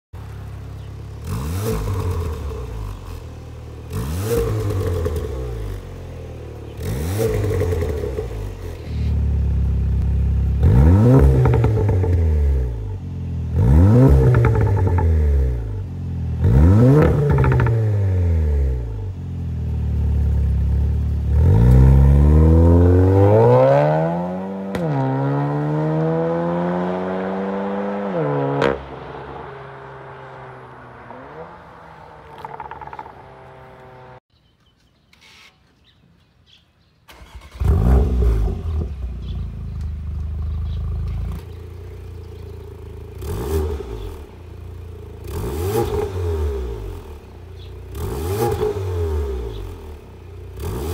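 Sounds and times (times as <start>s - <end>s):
car accelerating away with upshifts: 0.2s - 34.2s, 37.1s - 50.9s
car engine revving: 0.2s - 34.3s, 37.1s - 50.9s.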